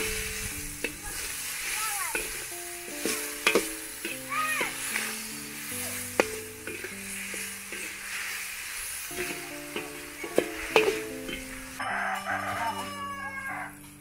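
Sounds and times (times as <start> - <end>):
background music with held notes: 0.0 - 14.0
metal skimmer scraping pan: 0.0 - 14.0
vegetables sizzling in oil: 0.0 - 14.0.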